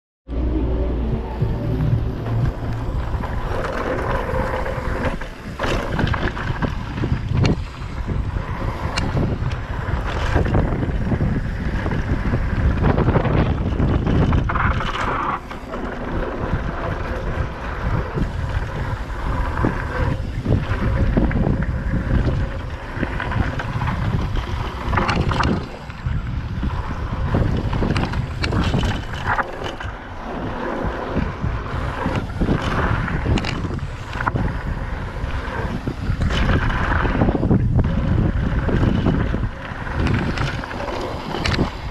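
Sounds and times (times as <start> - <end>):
wind buffeting microphone: 0.3 - 41.9
tyres rumbling on dirt and rock: 0.5 - 41.9
bike knocking and rattling: 1.4 - 41.9.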